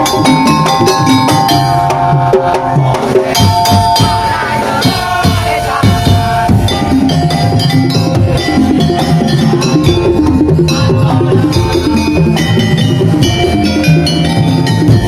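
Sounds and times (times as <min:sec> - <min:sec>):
drums and wooden percussion: 0:00.0 - 0:15.0
held melodic line: 0:00.0 - 0:15.0.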